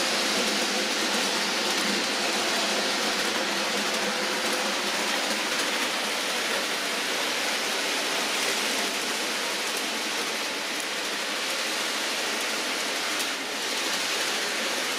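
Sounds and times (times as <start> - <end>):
model train running on track: 0.0 - 14.9.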